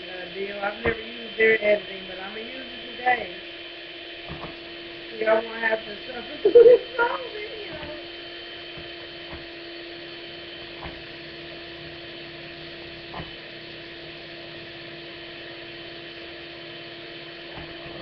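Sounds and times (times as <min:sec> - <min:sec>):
electric hand mixer running: 0:00.0 - 0:18.0.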